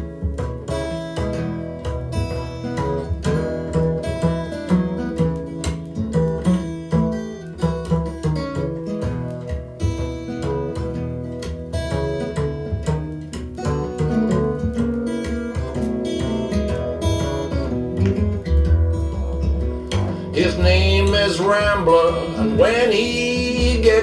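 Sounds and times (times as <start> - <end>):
acoustic guitar plucking: 0.0 - 24.0.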